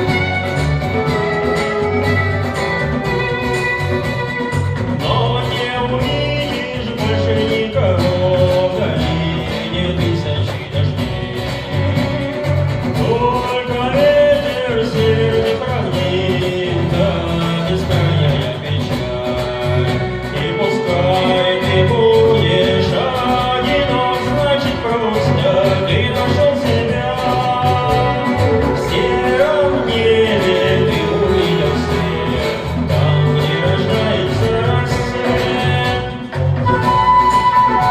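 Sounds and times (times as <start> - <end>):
acoustic guitar: 0.0 - 37.9
person singing: 0.0 - 37.9.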